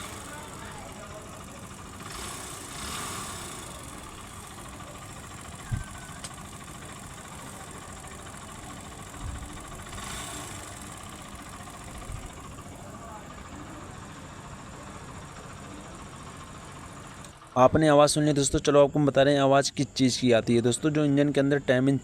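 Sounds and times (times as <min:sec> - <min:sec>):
motorcycle engine idling: 0:00.0 - 0:18.7.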